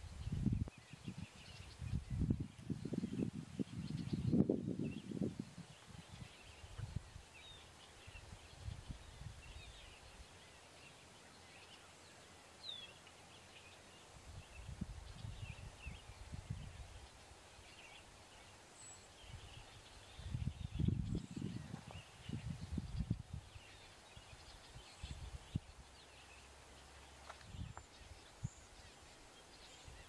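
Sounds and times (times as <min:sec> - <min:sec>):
small bird chirps: 0:00.0 - 0:30.0.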